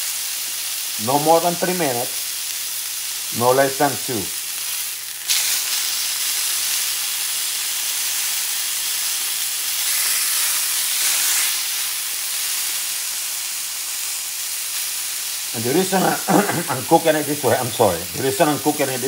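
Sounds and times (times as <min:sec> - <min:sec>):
meat sizzling in frying pan: 0:00.0 - 0:19.0.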